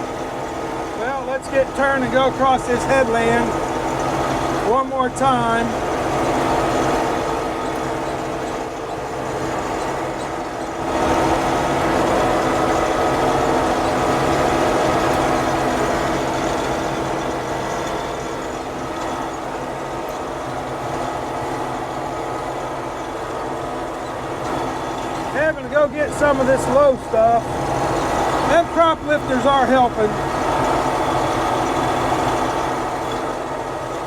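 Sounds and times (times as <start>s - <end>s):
combine harvester engine drone: 0.0s - 34.0s
threshing machinery rumble: 0.0s - 34.0s.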